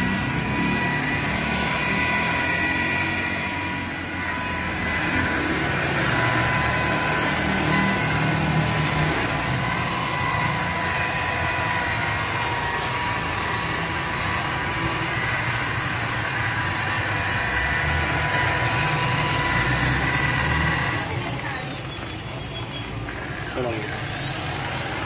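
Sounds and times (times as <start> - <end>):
electric polisher whining: 0.0 - 25.0.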